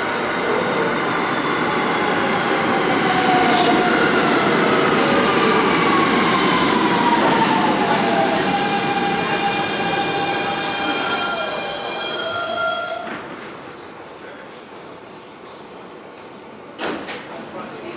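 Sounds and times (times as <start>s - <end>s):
subway train equipment humming: 0.0s - 17.9s.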